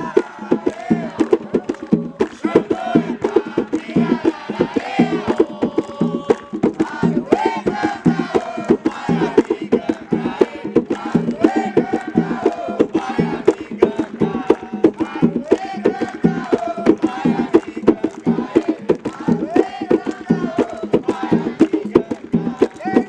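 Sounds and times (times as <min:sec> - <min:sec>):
drums beating quick rhythm: 0:00.0 - 0:23.0
group of voices chanting: 0:00.0 - 0:23.0.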